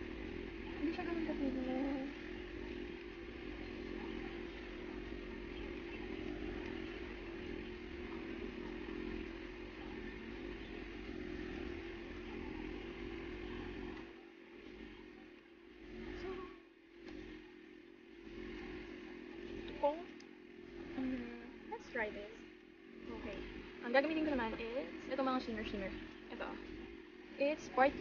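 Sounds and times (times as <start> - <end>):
low hum and hiss: 0.0 - 28.0.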